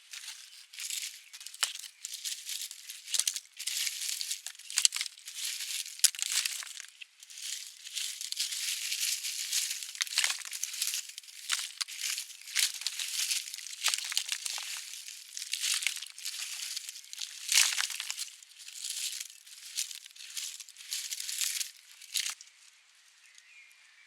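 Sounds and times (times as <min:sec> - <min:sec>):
dry material rustling and crinkling: 0:00.0 - 0:22.4.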